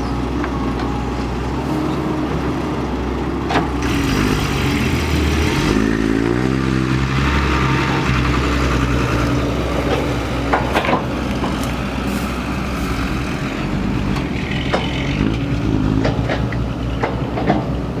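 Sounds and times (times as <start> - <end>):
excavator diesel engine revving: 0.0 - 18.0.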